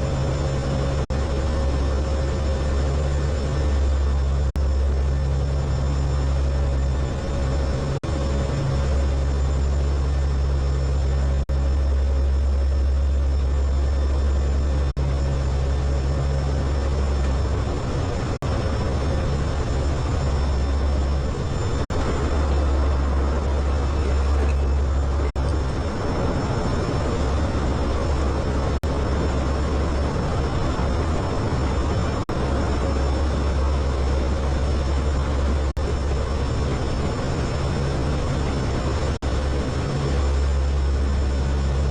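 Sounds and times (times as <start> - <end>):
aircraft engines droning: 0.0 - 41.9.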